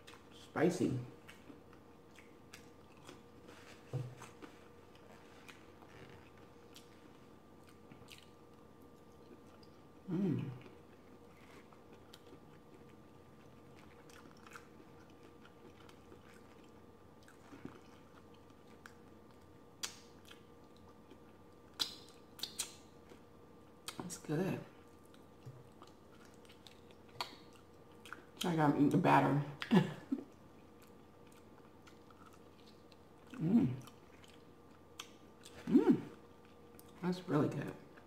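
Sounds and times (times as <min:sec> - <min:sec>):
chewing fried food: 0:00.0 - 0:00.5, 0:01.1 - 0:24.1, 0:24.7 - 0:28.5, 0:29.6 - 0:37.0.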